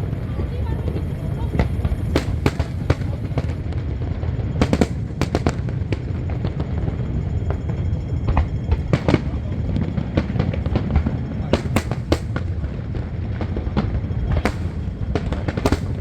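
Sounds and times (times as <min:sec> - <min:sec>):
continuous low rumble: 0:00.0 - 0:16.0
fireworks bangs: 0:00.0 - 0:16.0.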